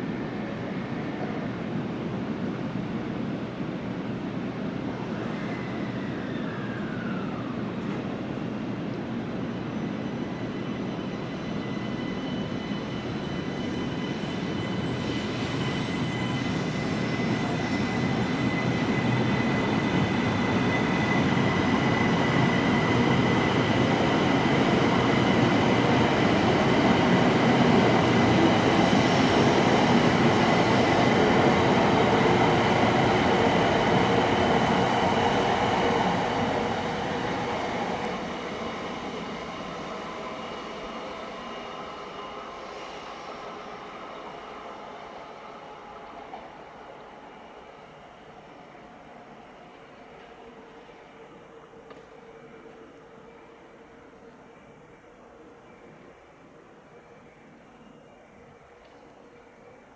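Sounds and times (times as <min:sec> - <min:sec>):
train rumble: 0:00.0 - 0:56.7
high train whine: 0:00.0 - 0:59.9.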